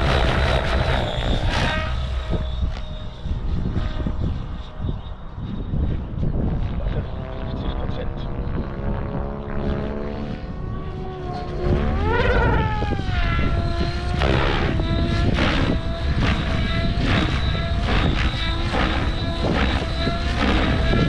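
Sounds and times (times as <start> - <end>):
model helicopter rotor whine: 0.0 - 21.0
wind rumble on microphone: 0.0 - 21.0.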